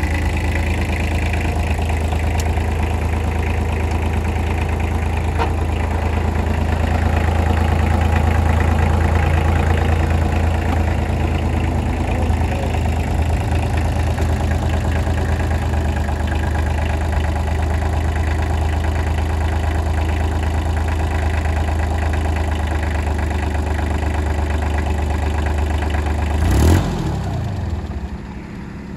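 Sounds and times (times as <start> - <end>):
tractor diesel engine idling: 0.0 - 28.9.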